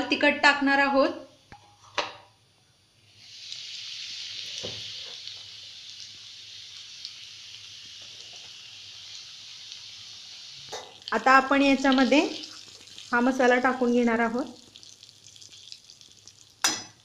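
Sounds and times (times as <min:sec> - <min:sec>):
spices sizzling in hot oil: 0:03.0 - 0:17.0.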